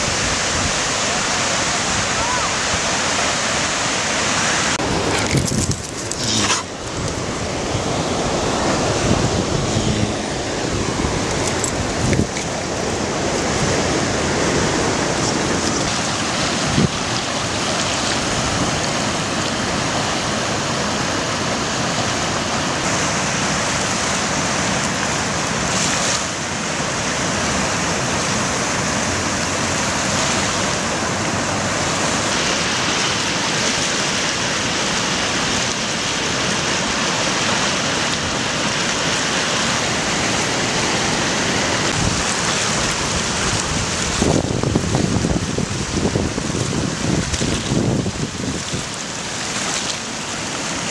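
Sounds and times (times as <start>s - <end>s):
floodwater rushing through rapids: 0.0s - 50.9s.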